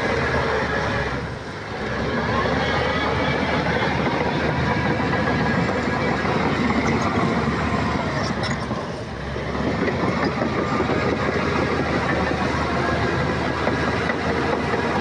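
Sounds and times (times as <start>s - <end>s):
diesel engine rattling clatter: 0.0s - 15.0s.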